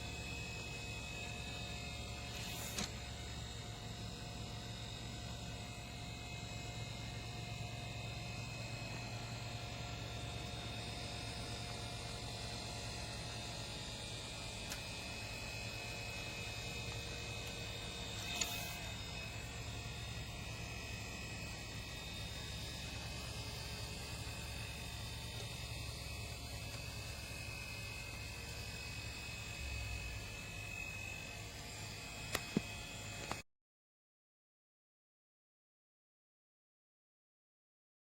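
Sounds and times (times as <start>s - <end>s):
electric motor humming: 0.0s - 33.4s.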